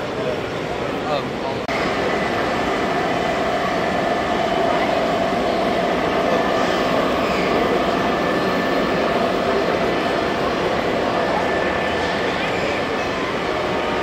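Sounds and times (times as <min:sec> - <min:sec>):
crowd murmuring: 0:00.0 - 0:14.0
model train wheels rumbling: 0:01.7 - 0:14.0.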